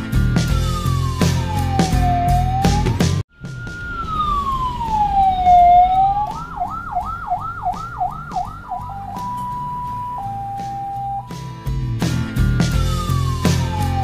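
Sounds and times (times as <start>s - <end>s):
road rumble: 0.0s - 14.0s
ambulance siren: 0.3s - 11.6s, 12.2s - 14.0s.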